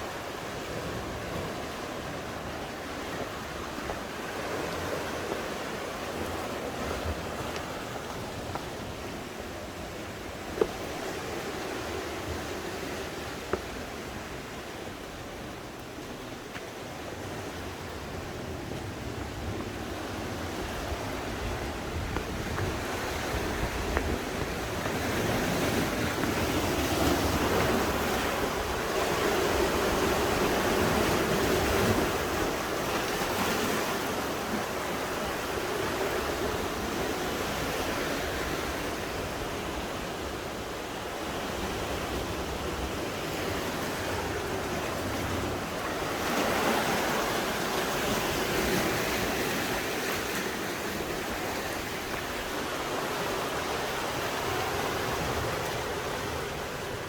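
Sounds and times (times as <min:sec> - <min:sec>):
sea waves washing on shore: 0:00.0 - 0:57.0.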